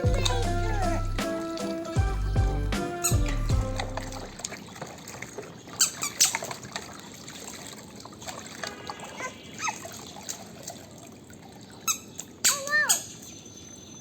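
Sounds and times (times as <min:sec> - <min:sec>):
water splashing and trickling: 0:00.0 - 0:14.0.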